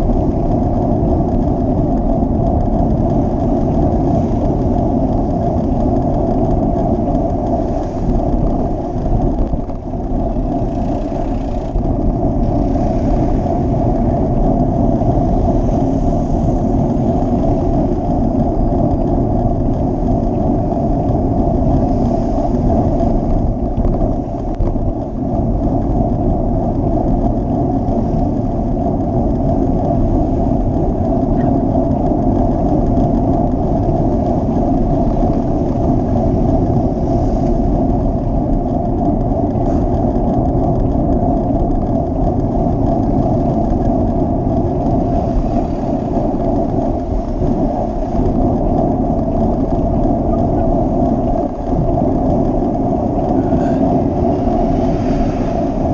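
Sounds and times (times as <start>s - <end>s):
traffic riding noise: 0.0s - 55.9s.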